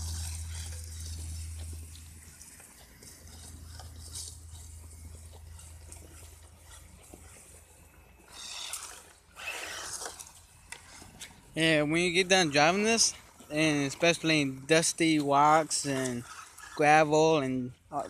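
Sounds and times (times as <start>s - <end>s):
tyres crackling on dirt and gravel: 0.0s - 18.0s.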